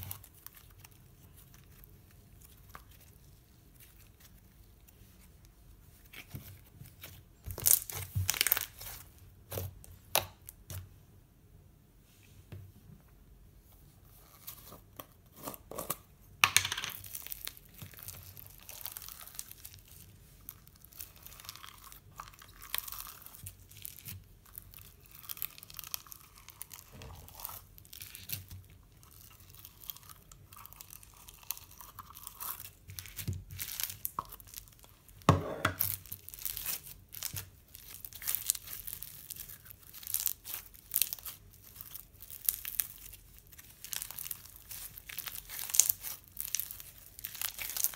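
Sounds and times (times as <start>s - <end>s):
slime crackling and tearing: 0.0s - 4.8s, 6.0s - 10.6s, 17.0s - 47.9s.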